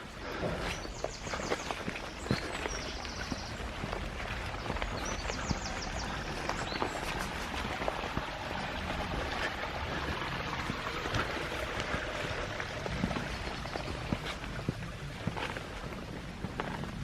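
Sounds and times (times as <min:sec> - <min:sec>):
footsteps crunching through wet leaves: 0:00.2 - 0:17.0.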